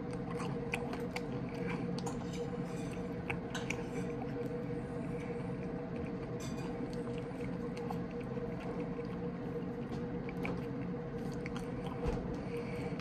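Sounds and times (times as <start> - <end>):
chewing: 0.0 - 13.0
steady low hum: 0.0 - 13.0.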